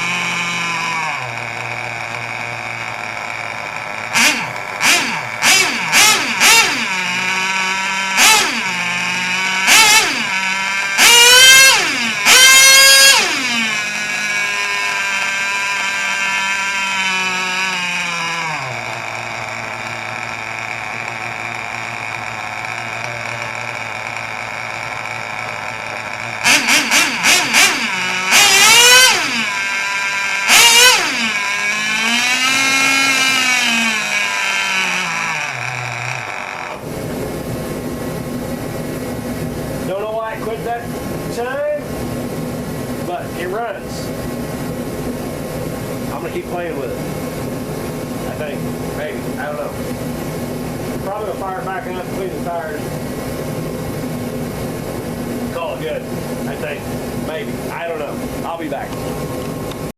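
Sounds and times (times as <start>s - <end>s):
small engine idling and revving: 0.0s - 59.9s.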